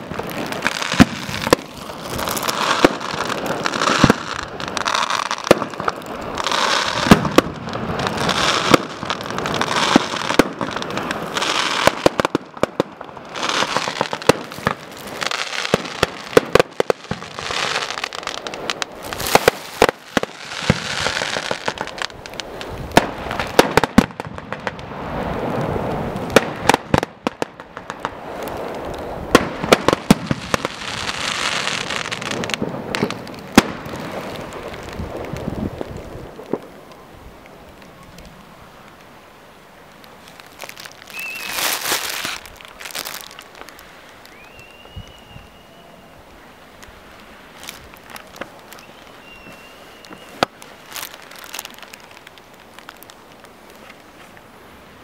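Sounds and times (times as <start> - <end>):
fireworks crackling hiss: 0.0 - 55.0.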